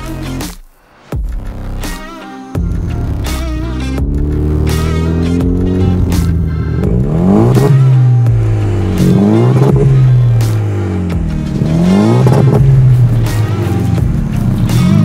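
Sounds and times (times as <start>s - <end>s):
car engine revving: 2.6s - 15.0s.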